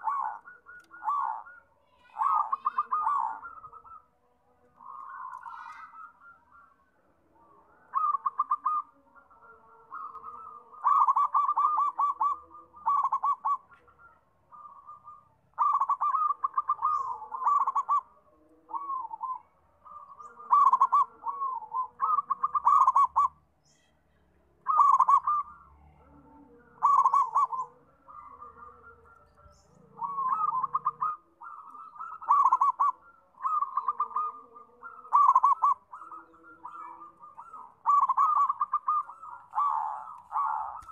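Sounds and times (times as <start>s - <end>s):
doves cooing: 0.0s - 23.9s, 24.5s - 40.9s.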